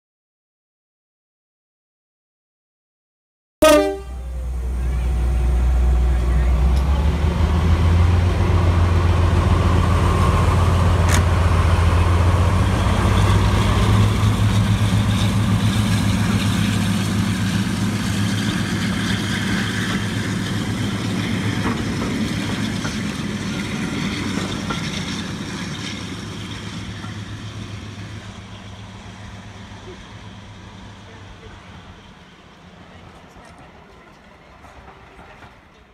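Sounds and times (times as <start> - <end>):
diesel locomotive engines under power: 3.6 - 35.9
train wheels running on rails: 4.2 - 35.9.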